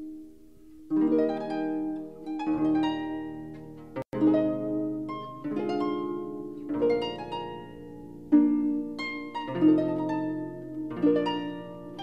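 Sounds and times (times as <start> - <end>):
harp melody: 0.0 - 12.0.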